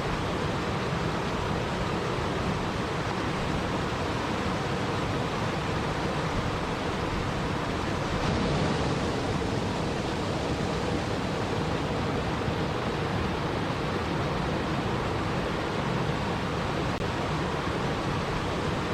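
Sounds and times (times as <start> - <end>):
rushing water: 0.0 - 18.9.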